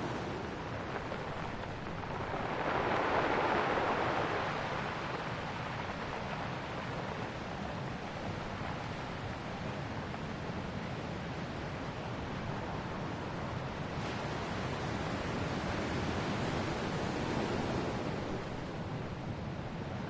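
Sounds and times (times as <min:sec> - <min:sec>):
ocean waves breaking on shore: 0:00.0 - 0:20.0.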